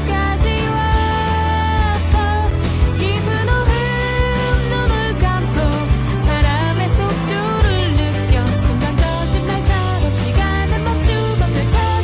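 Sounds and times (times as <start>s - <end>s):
pop-rock song with singer: 0.0s - 12.0s.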